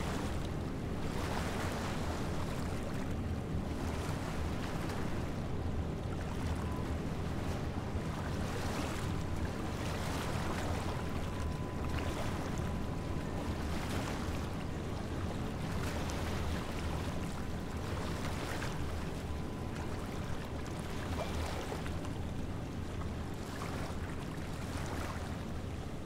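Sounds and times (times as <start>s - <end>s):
continuous low rumble: 0.0s - 26.0s
wind: 0.0s - 26.0s.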